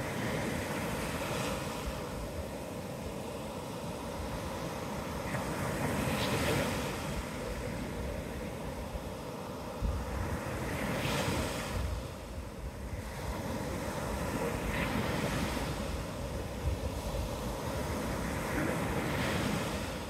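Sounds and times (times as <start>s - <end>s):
surf breaking on beach: 0.0s - 20.0s
wind rumbling on microphone: 0.0s - 20.0s.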